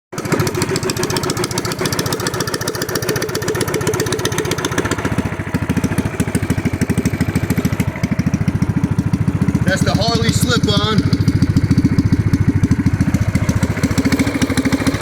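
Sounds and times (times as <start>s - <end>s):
small engine exhaust beat: 0.1s - 15.0s.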